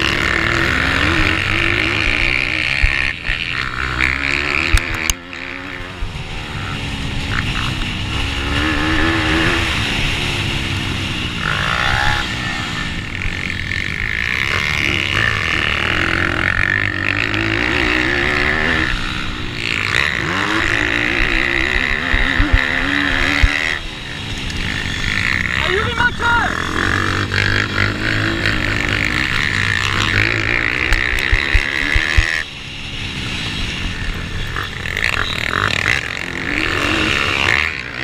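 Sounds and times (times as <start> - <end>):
motorbike engine racing: 0.0 - 38.0.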